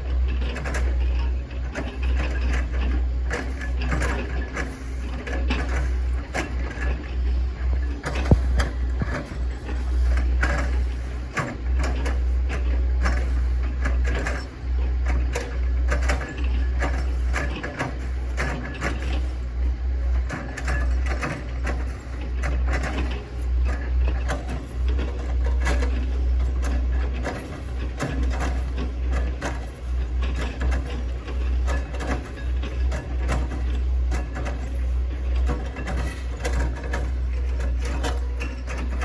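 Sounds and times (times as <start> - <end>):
excavator engine rumbling: 0.0 - 39.0.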